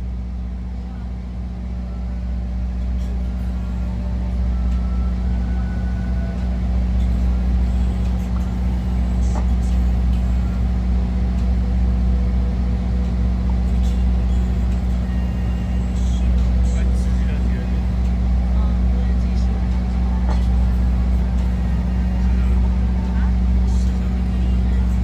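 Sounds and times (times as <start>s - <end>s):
large engine droning: 0.0s - 25.0s.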